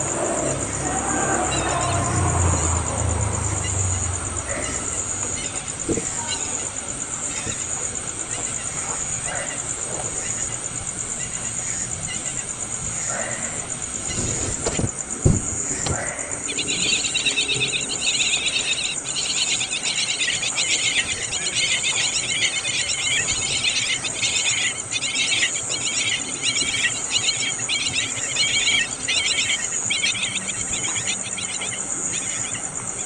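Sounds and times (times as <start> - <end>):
buzzy chattering animal trills: 0.0 - 33.0.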